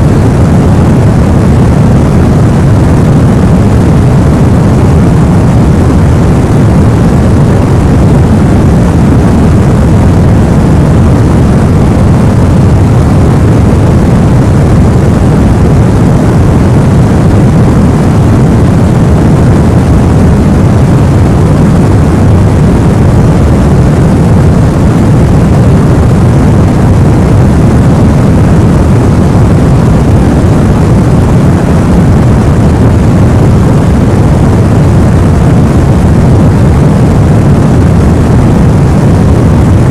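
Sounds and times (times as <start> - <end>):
low white noise rumble: 0.0 - 39.9.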